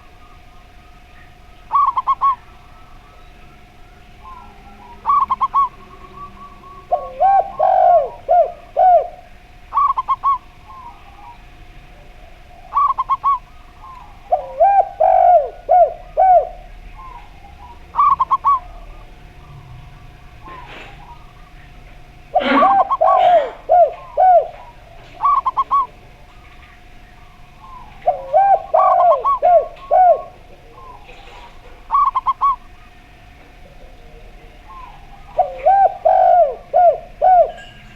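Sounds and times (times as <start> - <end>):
doves cooing: 0.0 - 37.9.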